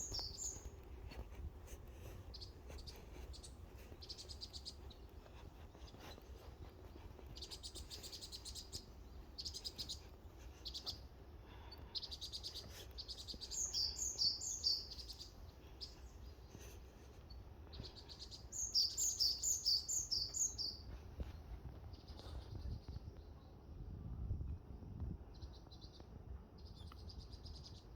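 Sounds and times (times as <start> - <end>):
songbirds buzzy trills: 0.0 - 23.4.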